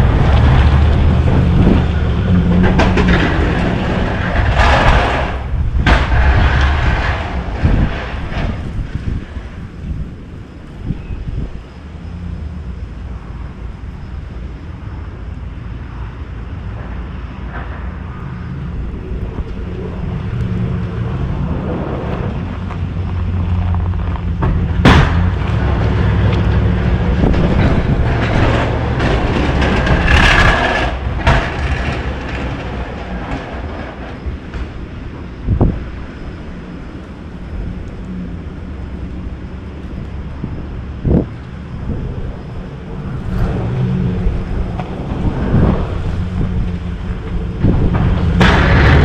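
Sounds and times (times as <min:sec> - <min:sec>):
noisy rush: 0:00.0 - 0:49.0
snowplow engine running: 0:00.0 - 0:49.0.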